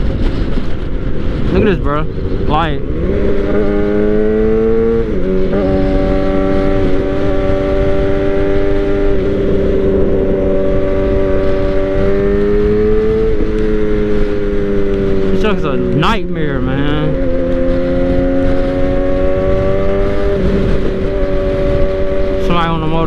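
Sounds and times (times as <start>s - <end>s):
motorcycle engine at speed: 0.0s - 23.0s
wind and road noise: 0.0s - 23.0s.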